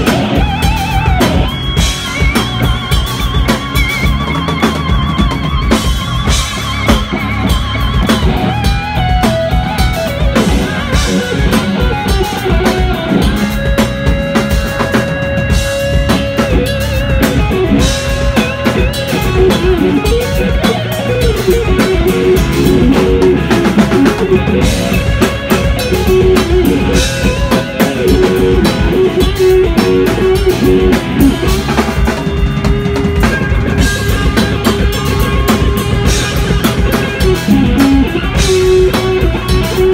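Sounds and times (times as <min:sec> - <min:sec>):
electric guitar solo: 0:00.0 - 0:39.9
live rock band playing: 0:00.0 - 0:39.9.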